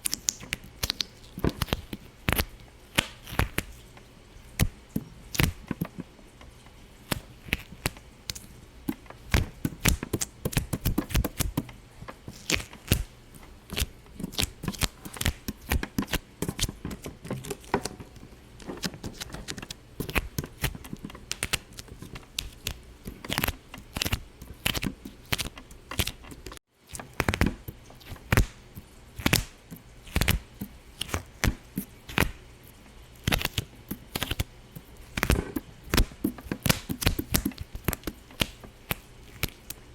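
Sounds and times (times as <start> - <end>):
sharp pops and clicks: 0.0 - 3.8, 7.1 - 32.4, 35.1 - 39.8.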